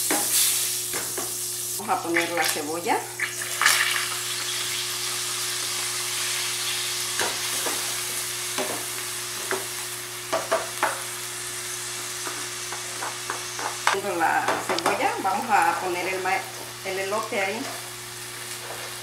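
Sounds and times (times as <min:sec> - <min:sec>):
onion sizzling in a pan: 0:00.0 - 0:19.0.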